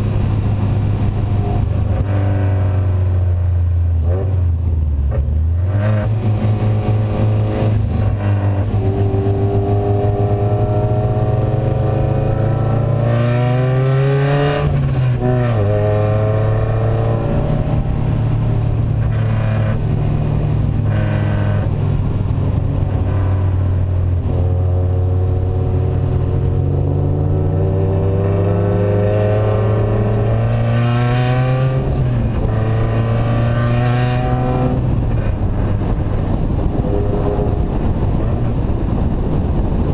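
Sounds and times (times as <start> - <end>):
engine with unsilenced exhaust: 0.0 - 39.9.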